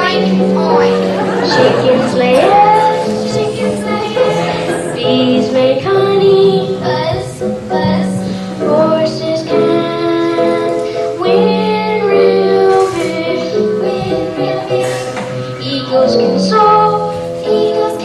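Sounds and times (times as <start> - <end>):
children singing: 0.0 - 16.9
stage musical music: 0.0 - 18.0.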